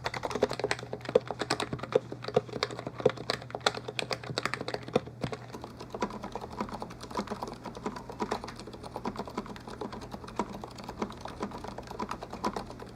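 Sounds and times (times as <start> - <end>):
keyboard typing clacks: 0.0 - 12.9.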